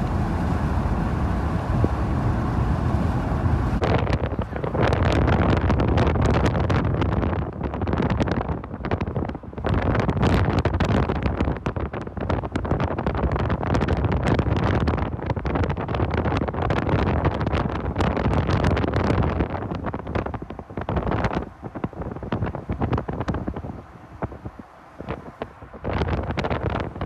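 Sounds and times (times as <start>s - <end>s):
vehicle road noise: 0.0s - 27.0s
wind buffeting microphone: 0.0s - 27.0s.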